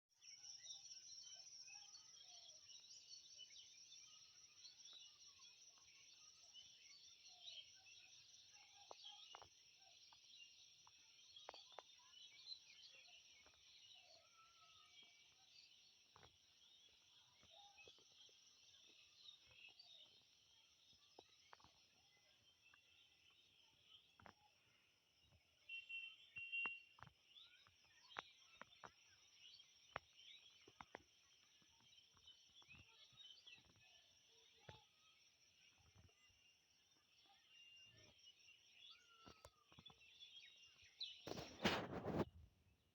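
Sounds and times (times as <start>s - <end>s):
small birds chirping: 0.1s - 42.3s.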